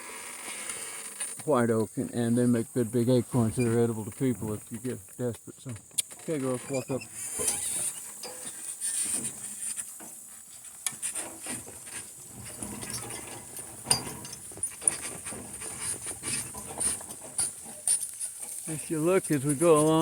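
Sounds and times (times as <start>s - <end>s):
cart and harness creaking rattling: 0.1s - 20.0s.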